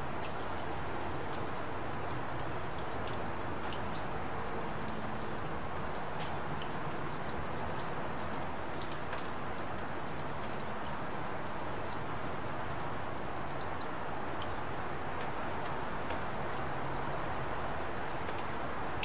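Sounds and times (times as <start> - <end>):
sharp drips: 0.0 - 19.0
steady rain falling: 0.0 - 19.0.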